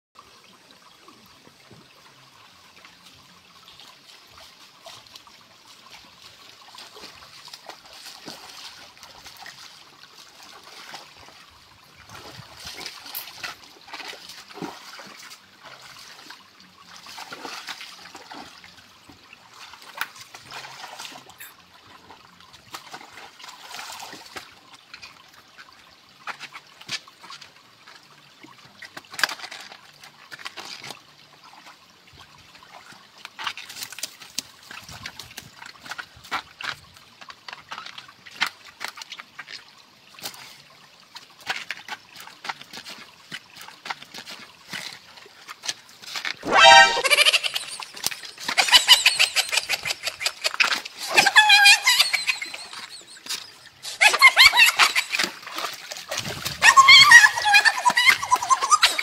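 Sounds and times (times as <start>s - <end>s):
river water trickling over rocks: 0.2s - 46.5s, 47.5s - 59.0s.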